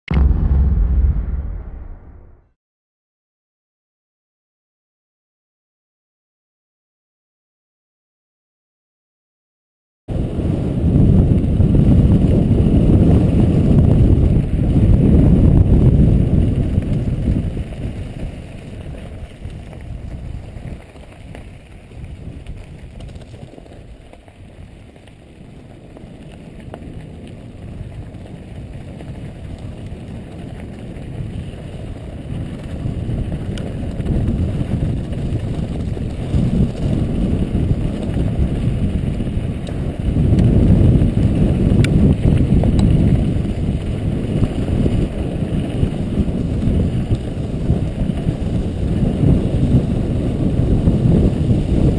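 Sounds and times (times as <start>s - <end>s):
wind buffeting microphone: 0.1s - 2.4s, 10.1s - 24.8s, 26.5s - 51.9s
bike tyres rumbling on rocks: 10.2s - 51.9s.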